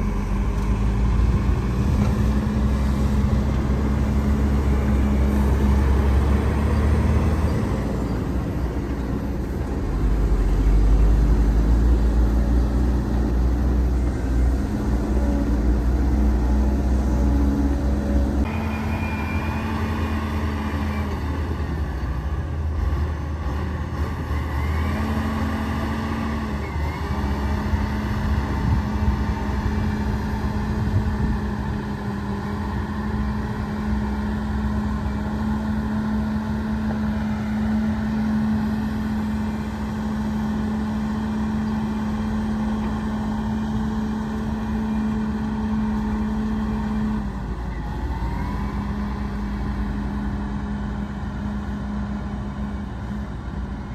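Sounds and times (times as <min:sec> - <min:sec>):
heavy diesel machinery rumbling: 0:00.0 - 0:53.9.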